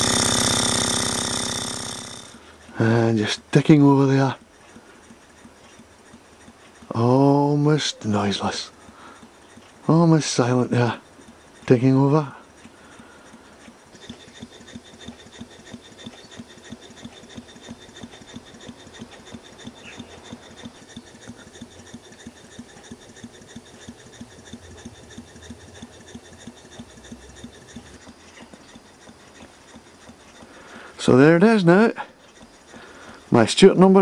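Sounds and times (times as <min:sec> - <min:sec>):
faint chuff of model steam engine: 0:00.0 - 0:34.0.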